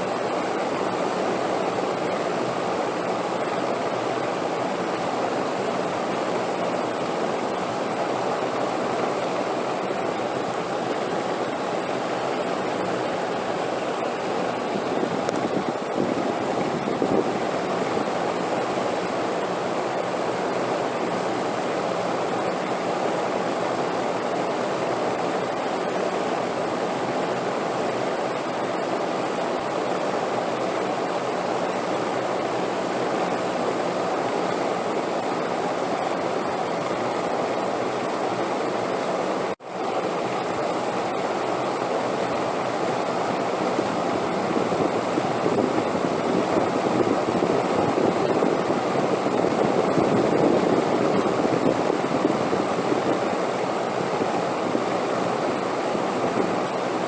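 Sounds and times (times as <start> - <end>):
wind blowing: 0.0 - 22.9, 30.4 - 57.0.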